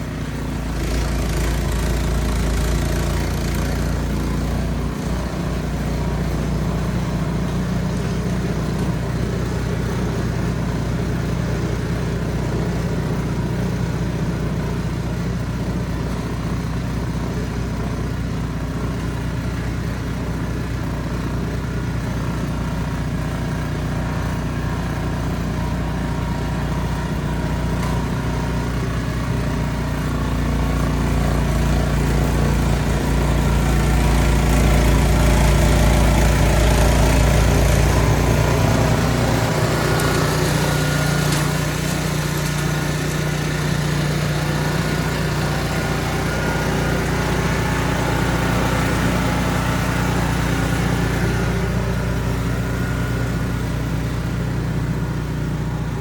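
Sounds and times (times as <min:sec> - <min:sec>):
snow blower engine running: 0:00.0 - 0:56.0.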